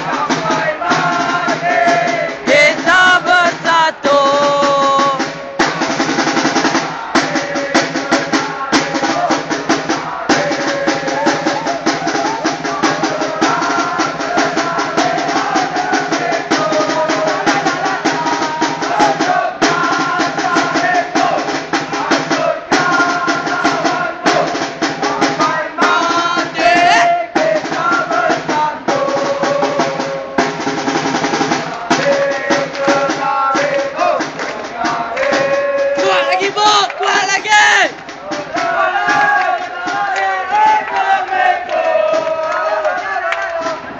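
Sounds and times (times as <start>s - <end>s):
football supporters chanting: 0.0s - 30.5s, 31.4s - 43.9s
rapid drumming with snare rolls: 0.0s - 43.9s.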